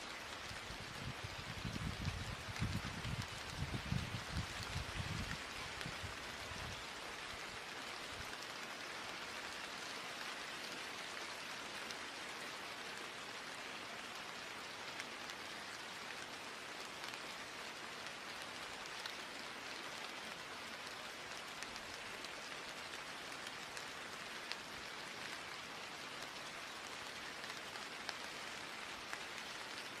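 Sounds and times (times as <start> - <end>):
raindrops pattering: 0.0 - 30.0
steady rain hiss: 0.0 - 30.0.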